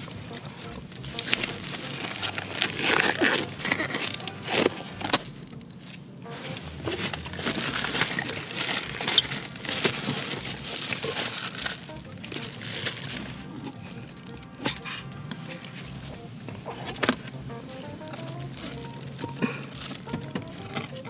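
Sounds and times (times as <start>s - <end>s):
plastic gloves crinkling: 0.0s - 5.4s, 6.5s - 16.2s, 17.8s - 21.0s
plastic wrap rustling: 1.0s - 5.7s, 6.6s - 15.9s, 18.1s - 21.0s.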